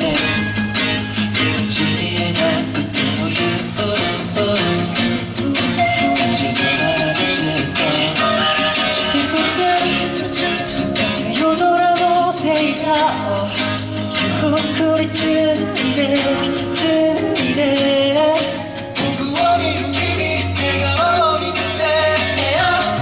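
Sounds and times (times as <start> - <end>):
pop song over sound system: 0.0 - 23.0.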